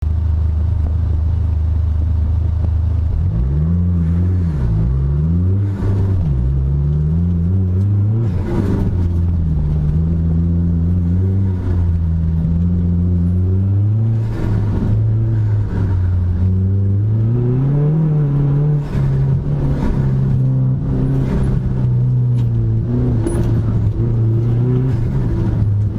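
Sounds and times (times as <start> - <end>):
car engine revving: 0.2 - 25.9.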